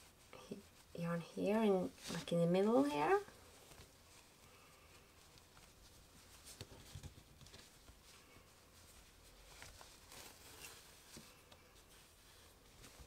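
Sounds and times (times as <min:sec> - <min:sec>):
hands rustling yarn: 0:00.0 - 0:13.0.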